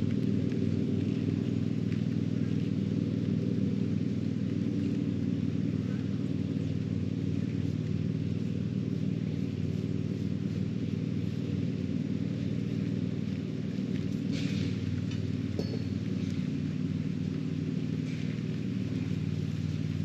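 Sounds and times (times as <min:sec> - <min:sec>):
motor droning: 0:00.0 - 0:20.0.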